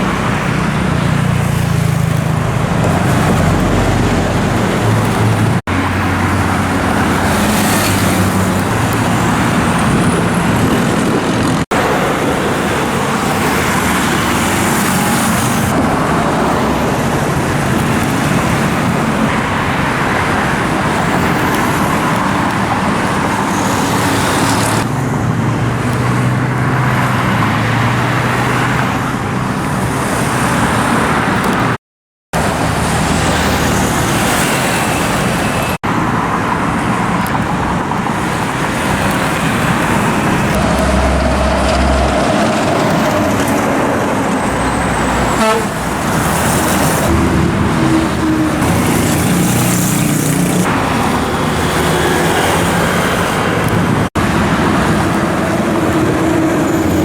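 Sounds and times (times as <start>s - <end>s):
motorcycles passing: 0.0s - 31.8s, 32.4s - 57.0s.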